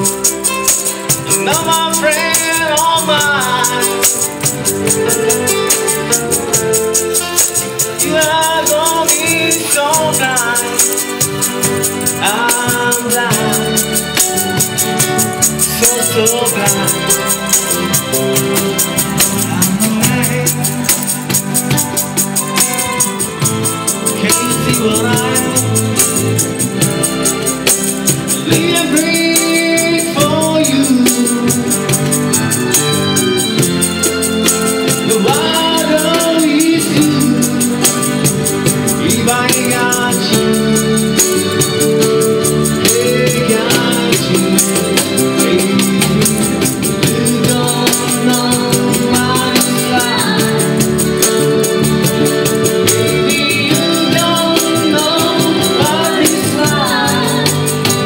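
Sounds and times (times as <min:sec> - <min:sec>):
guitars: 0:00.0 - 0:58.0
keyboard: 0:00.0 - 0:58.0
person singing: 0:00.0 - 0:58.0
tambourine shaken in rhythm: 0:00.0 - 0:58.0.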